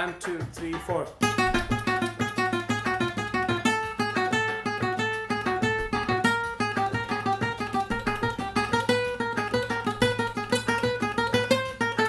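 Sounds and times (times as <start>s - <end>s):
flamenco guitar picking: 0.0s - 12.0s.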